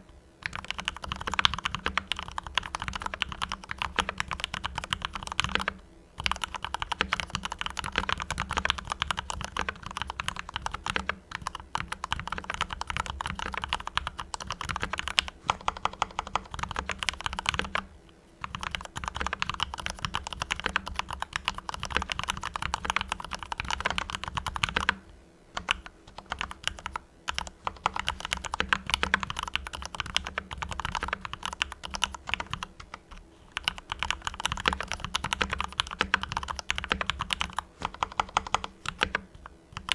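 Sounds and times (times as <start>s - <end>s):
mechanical keyboard typing: 0.4s - 25.0s, 25.6s - 39.9s.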